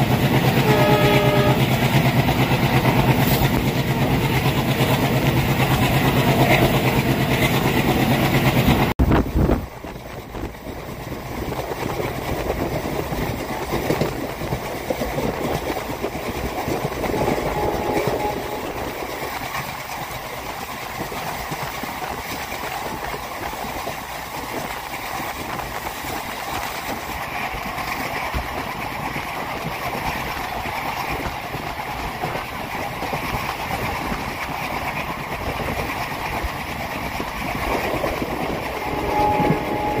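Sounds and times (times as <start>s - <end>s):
train wheels rolling on rails: 0.0s - 40.0s.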